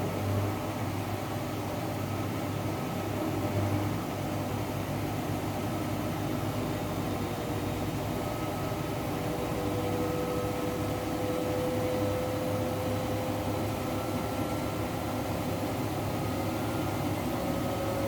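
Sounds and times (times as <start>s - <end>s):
washing machine humming: 0.0s - 18.0s.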